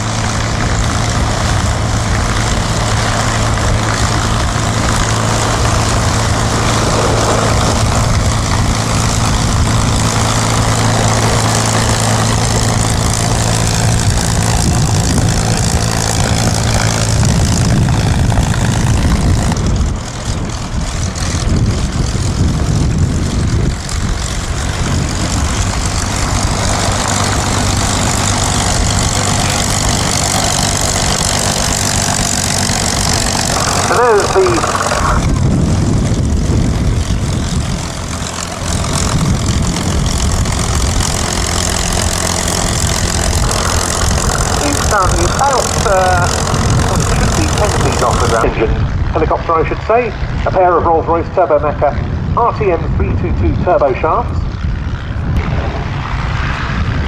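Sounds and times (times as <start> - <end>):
aircraft engines running: 0.0 - 57.0.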